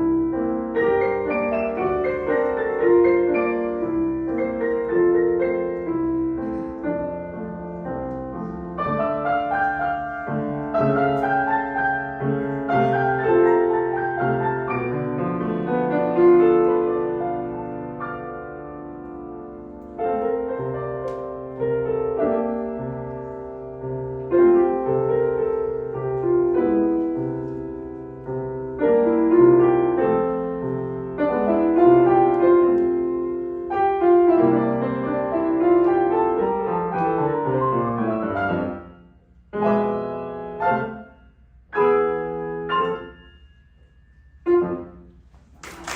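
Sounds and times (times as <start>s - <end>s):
solo piano piece: 0.0s - 45.9s.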